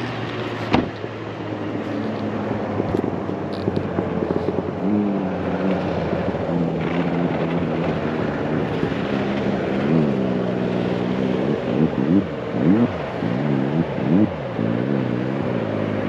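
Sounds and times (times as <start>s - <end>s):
snowmobile engines revving: 0.0s - 16.0s.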